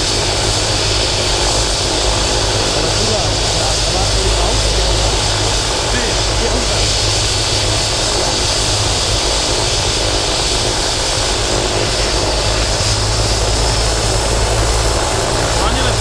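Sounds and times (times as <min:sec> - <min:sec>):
helicopter rotor beat: 0:00.0 - 0:16.0
helicopter turbine whine: 0:00.0 - 0:16.0.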